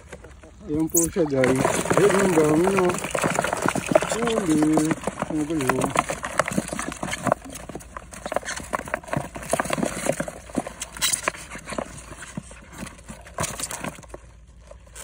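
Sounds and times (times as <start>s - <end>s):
crabs clattering in foam cooler: 0.0s - 15.0s.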